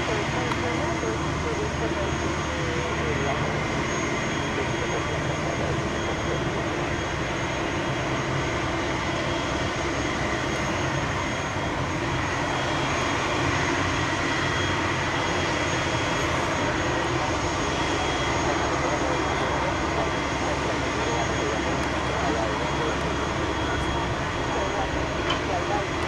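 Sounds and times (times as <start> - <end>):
aircraft engine running: 0.0 - 26.0.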